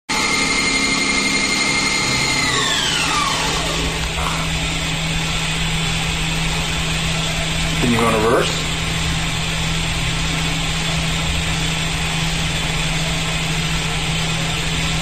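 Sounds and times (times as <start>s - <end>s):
lathe spindle whine: 0.1s - 15.0s
low machine hum: 0.1s - 15.0s.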